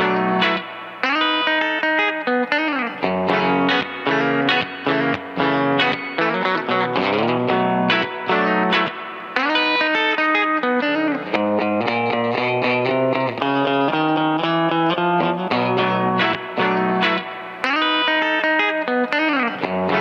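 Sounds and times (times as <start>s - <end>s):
electric guitar notes and chords: 0.0s - 20.0s.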